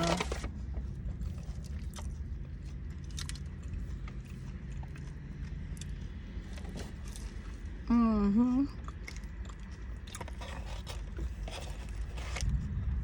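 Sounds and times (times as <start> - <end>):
steady low hum: 0.0 - 13.0
person chewing food: 0.8 - 7.8, 8.7 - 12.7.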